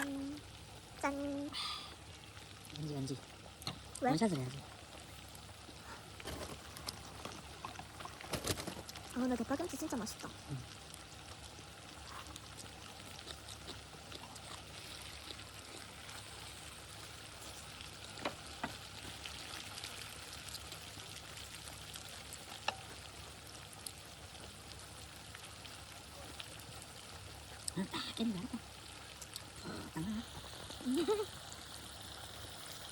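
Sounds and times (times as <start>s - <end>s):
food sizzling in a pan: 0.0s - 32.9s.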